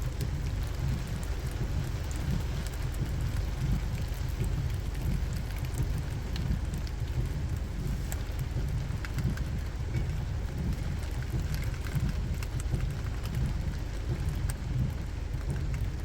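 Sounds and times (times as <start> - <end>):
steady falling rain: 0.0 - 16.0
ticks of raindrops: 0.0 - 16.0
wind buffeting microphone: 0.0 - 16.0.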